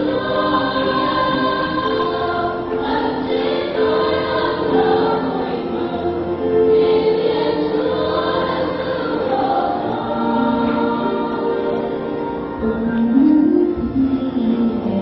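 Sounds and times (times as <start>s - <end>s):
choir singing a hymn: 0.0s - 15.0s.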